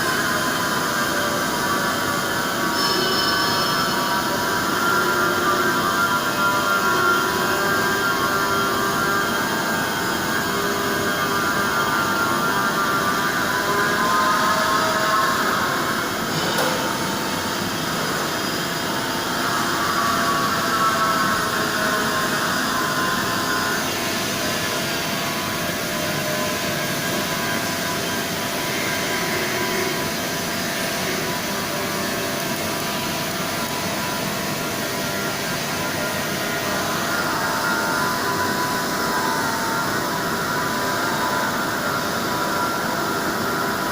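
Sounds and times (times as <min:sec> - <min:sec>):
milling machine running: 0:00.0 - 0:43.9.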